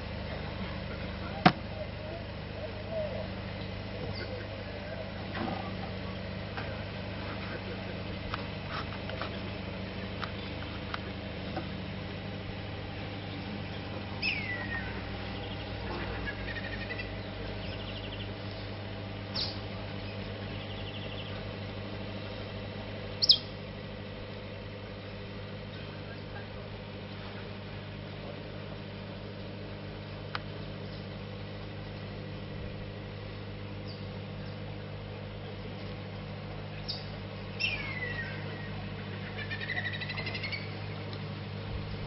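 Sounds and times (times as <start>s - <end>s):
steamer engine drone: 0.0s - 42.0s
birds chirping: 0.4s - 28.8s, 29.4s - 41.8s.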